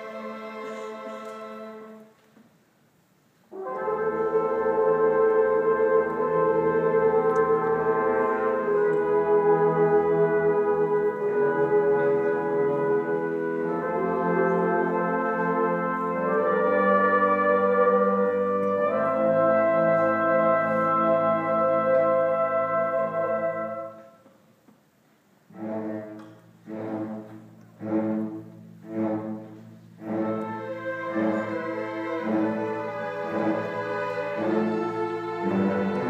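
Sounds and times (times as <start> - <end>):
orchestra playing sustained chords: 0.0 - 2.1, 3.5 - 24.1, 25.5 - 36.0.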